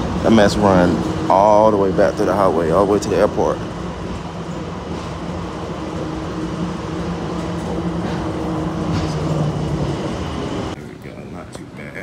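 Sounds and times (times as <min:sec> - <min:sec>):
train rolling rumble: 0:00.0 - 0:10.8
train motor hum: 0:00.0 - 0:12.0.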